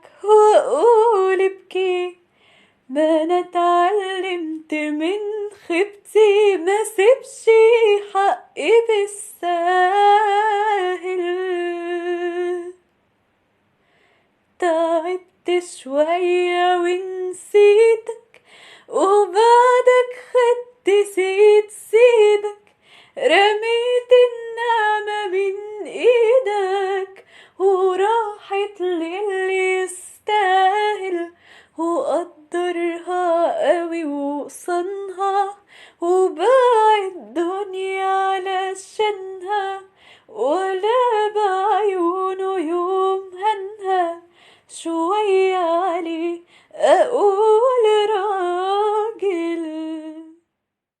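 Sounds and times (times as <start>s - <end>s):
woman singing unaccompanied: 0.0s - 2.3s, 2.9s - 12.8s, 14.6s - 50.5s.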